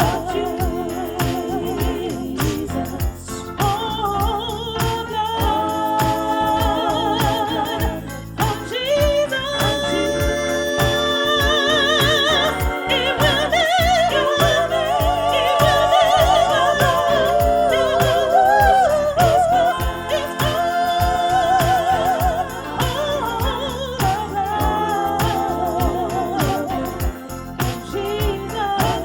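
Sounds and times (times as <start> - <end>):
band accompaniment: 0.0 - 29.0
person singing with vibrato: 0.0 - 29.0
steady drum beat: 0.0 - 29.0.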